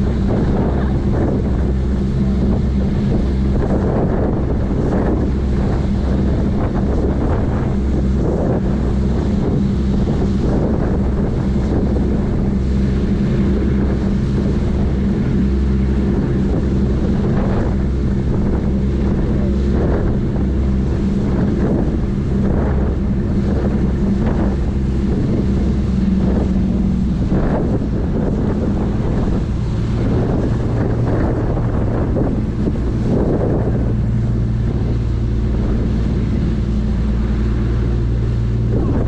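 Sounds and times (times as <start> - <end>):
boat engines droning: 0.0 - 39.0
wind buffeting microphone: 0.0 - 39.0.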